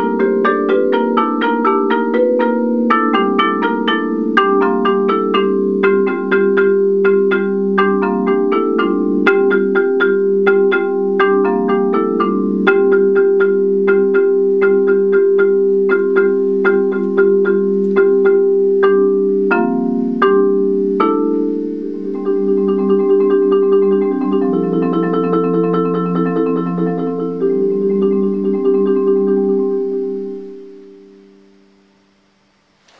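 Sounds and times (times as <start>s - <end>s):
marimba played with mallets: 0.0s - 31.3s.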